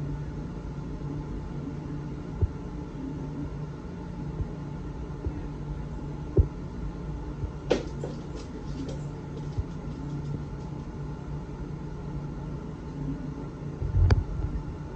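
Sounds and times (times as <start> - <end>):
aquarium pumps humming: 0.0 - 14.9.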